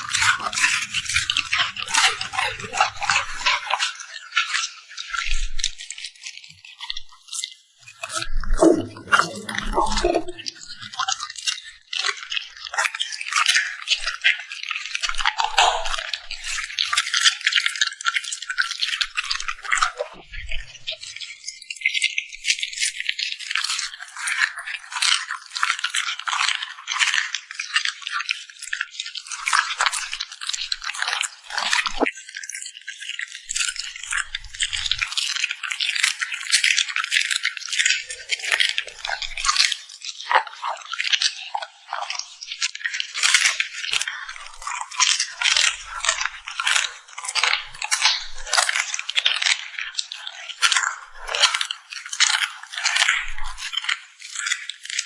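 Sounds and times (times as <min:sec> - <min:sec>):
dog eating with crunches: 0:00.0 - 0:55.0.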